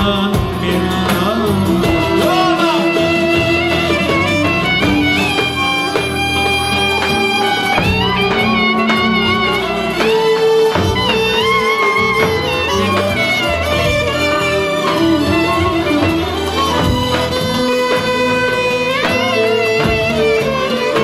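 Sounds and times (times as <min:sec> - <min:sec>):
plucked lutes: 0:00.0 - 0:21.0
violins: 0:00.0 - 0:21.0
clarinet: 0:01.6 - 0:21.0.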